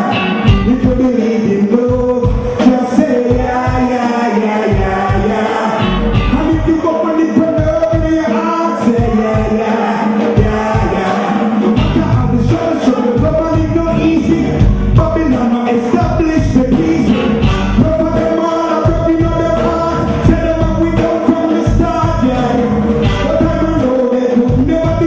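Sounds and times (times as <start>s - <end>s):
drums: 0.0s - 25.0s
electric guitar: 0.0s - 25.0s
man singing into microphone: 0.0s - 25.0s.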